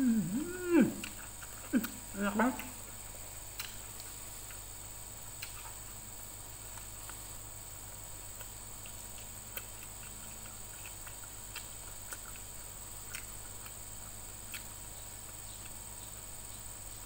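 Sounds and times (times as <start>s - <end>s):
person chewing: 0.0s - 6.0s, 6.6s - 15.9s
background hum and hiss: 0.0s - 17.0s.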